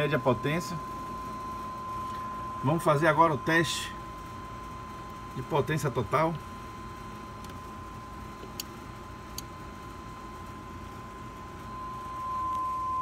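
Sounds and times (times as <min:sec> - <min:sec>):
sine test tone: 0:00.0 - 0:13.0.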